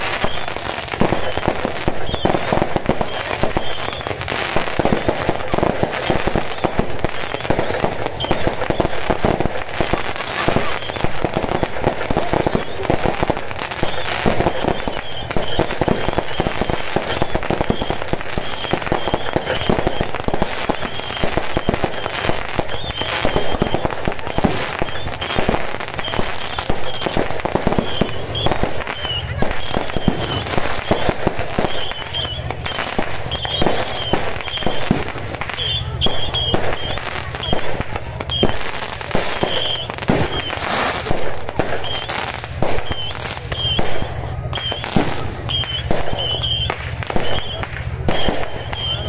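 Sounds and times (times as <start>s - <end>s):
fireworks crackling and banging: 0.0s - 49.0s.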